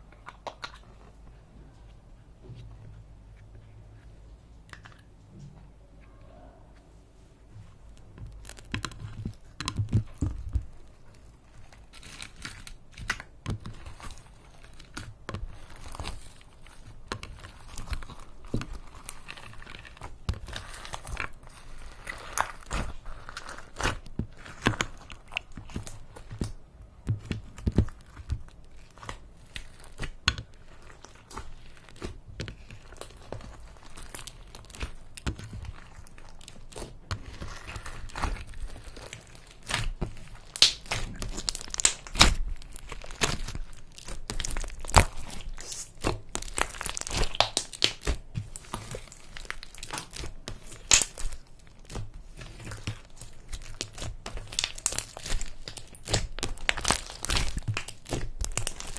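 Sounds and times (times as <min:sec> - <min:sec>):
slime squeezed crackling and popping: 0:07.9 - 0:58.9.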